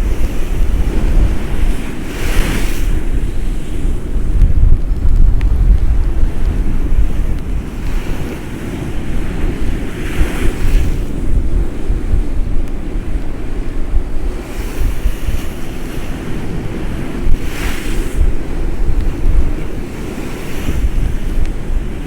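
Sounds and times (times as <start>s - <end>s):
waves splashing against a wall: 0.0s - 22.0s
wind buffeting microphone: 0.0s - 22.0s.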